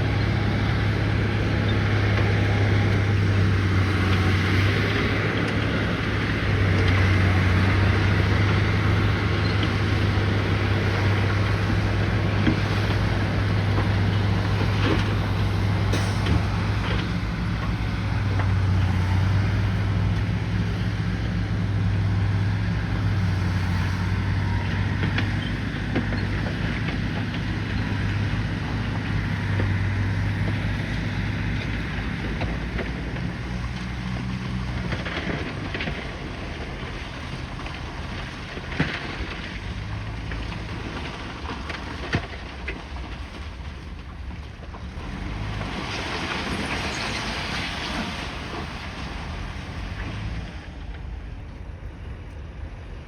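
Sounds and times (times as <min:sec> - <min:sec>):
bulldozer diesel engine droning: 0:00.0 - 0:53.0.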